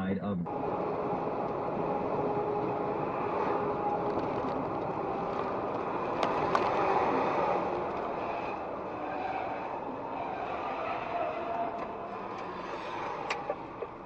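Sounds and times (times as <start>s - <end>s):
vehicle road and engine noise: 0.0s - 14.0s.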